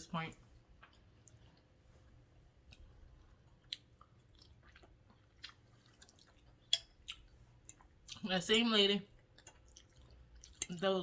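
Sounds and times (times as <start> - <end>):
close-miked chewing: 0.4 - 11.0.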